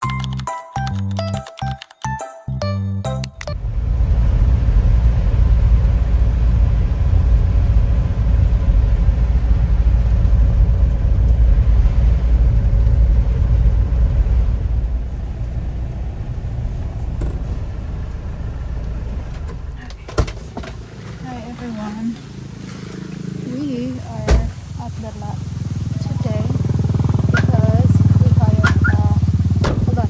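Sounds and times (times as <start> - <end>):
motor vehicle rumbling: 3.4 - 30.0.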